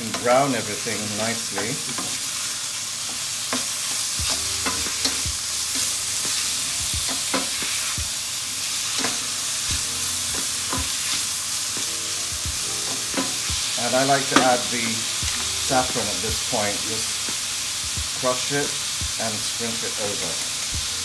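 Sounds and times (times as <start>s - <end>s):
meat and onions sizzling: 0.0s - 21.0s.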